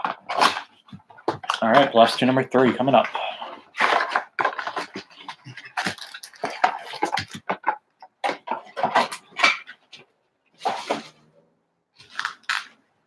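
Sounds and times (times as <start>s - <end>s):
card packs rustling and crinkling: 0.0s - 10.0s, 10.6s - 11.2s, 12.0s - 12.8s.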